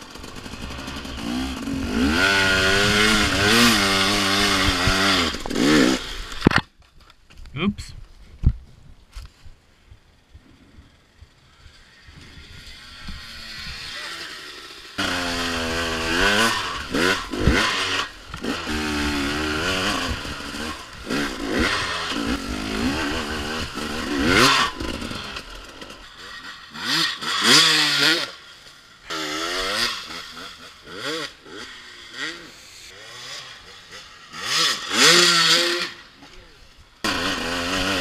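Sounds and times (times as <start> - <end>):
dirt bike engines revving: 0.0 - 6.5, 10.0 - 38.0.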